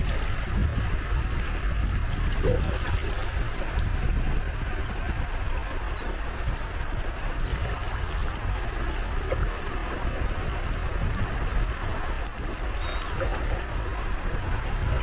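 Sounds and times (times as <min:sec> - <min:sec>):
small waves lapping at shore: 0:00.0 - 0:15.0
wind rumble on microphone: 0:00.0 - 0:15.0.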